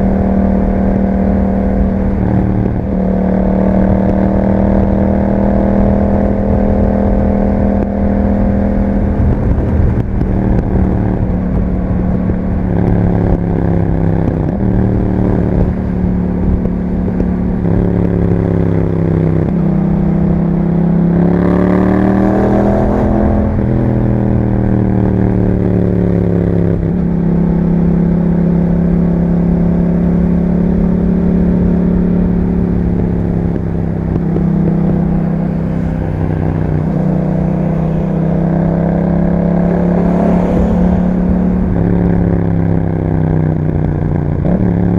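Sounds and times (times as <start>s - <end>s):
motorcycle engine shifting gears: 0.0s - 44.9s.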